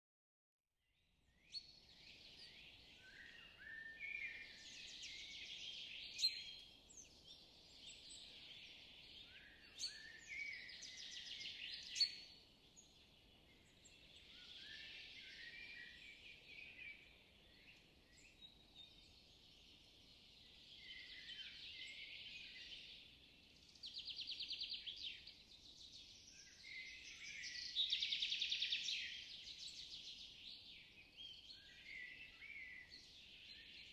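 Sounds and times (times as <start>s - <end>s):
songbirds chirping and singing: 1.3s - 33.9s.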